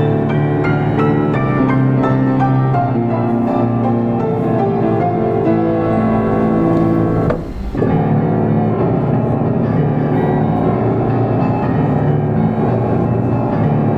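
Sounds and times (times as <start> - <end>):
grand piano playing: 0.0 - 13.9.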